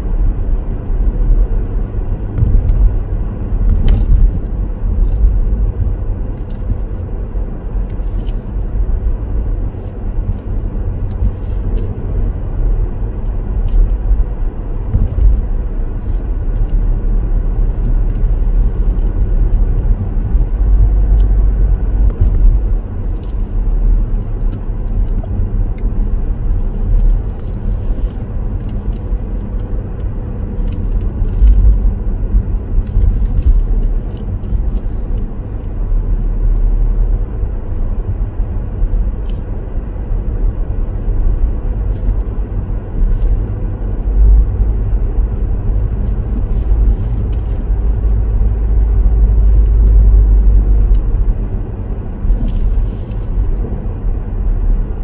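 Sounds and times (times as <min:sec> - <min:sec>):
car driving rumble: 0:00.0 - 0:55.0.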